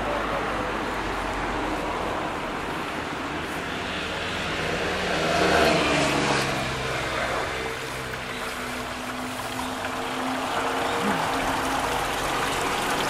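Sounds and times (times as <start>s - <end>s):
road vehicle passing by: 0.0s - 13.0s.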